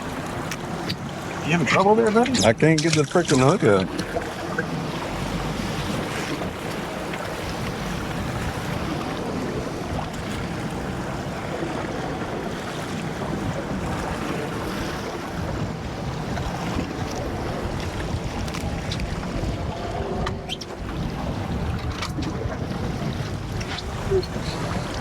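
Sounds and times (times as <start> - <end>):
choppy water against boat: 0.0 - 25.0
wind buffeting microphone: 0.0 - 25.0.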